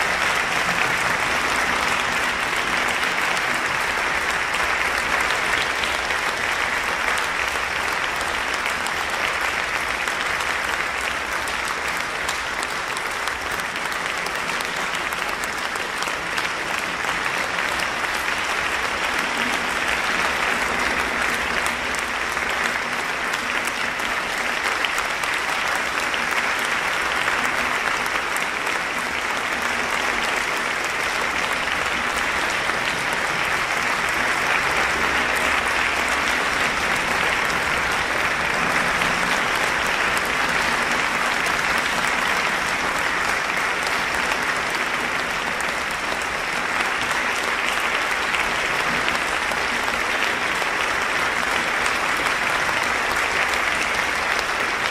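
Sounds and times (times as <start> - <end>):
audience applauding: 0.0 - 54.9.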